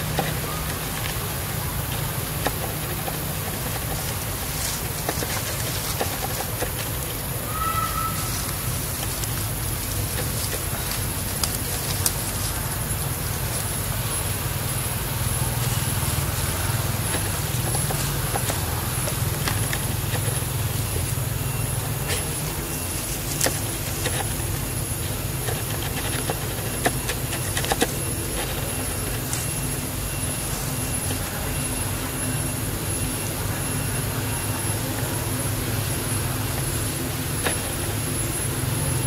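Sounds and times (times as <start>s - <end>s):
low outdoor rumble: 0.0s - 39.0s.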